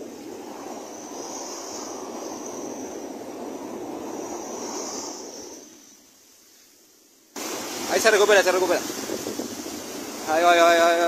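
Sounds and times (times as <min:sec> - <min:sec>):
ocean surf washing up: 0:00.0 - 0:11.0.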